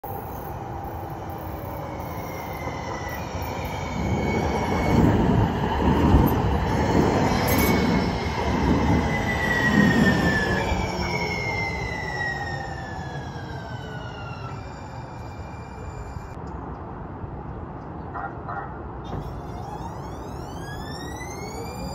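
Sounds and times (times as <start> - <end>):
train rumbling past: 0.0 - 21.9.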